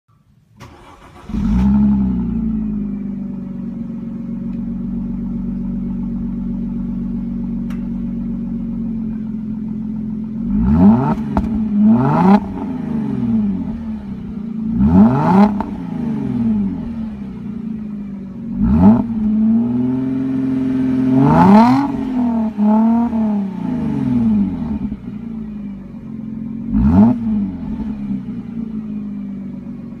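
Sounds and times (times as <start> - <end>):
car engine starting and revving: 0.6 - 30.0.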